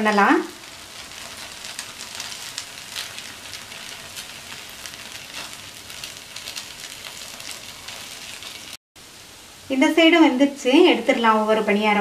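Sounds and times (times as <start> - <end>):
oil sizzling and crackling: 0.0 - 9.8.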